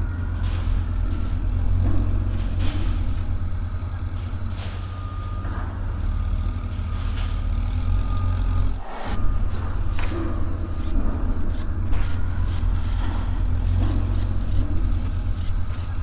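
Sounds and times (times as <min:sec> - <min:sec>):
diesel engine running: 0:00.0 - 0:16.0
sharp metal clanks: 0:00.0 - 0:16.0
thin high whine: 0:00.0 - 0:16.0.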